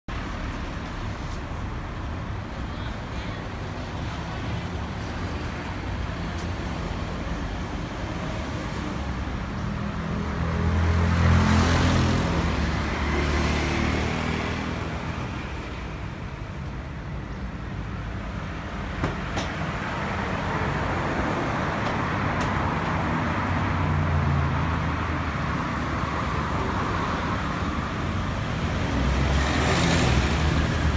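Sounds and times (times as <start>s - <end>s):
road vehicle engines rumbling: 0.1s - 30.9s.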